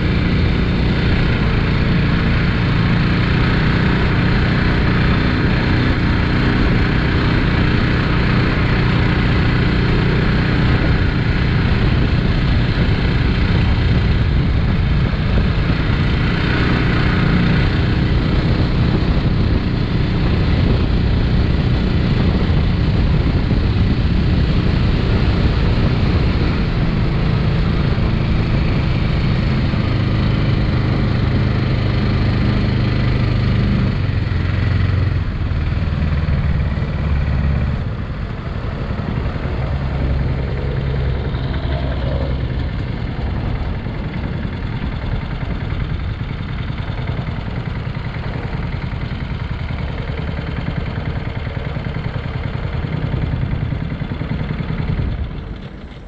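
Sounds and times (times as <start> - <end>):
boat engine running: 0.0 - 56.0
wind noise: 0.0 - 56.0.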